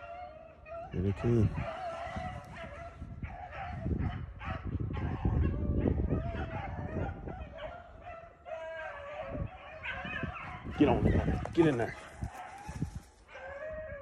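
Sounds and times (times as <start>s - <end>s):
dogs baying and yelping: 0.0s - 14.0s.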